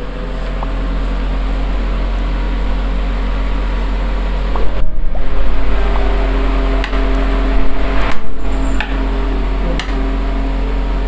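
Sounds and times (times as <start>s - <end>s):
fan motor whirring: 0.0s - 11.0s
mains hum: 0.0s - 11.0s.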